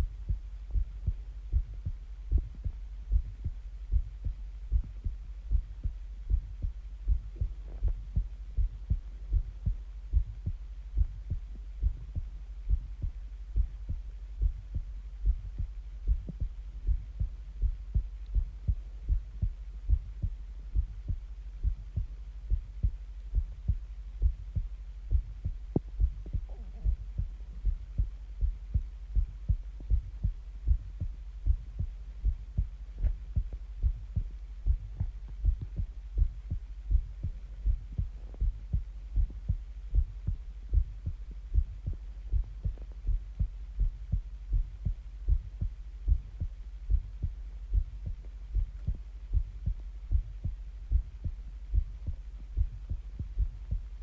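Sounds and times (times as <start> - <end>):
faint steady hum: 0.0 - 54.0
heartbeat thuds: 0.0 - 54.0.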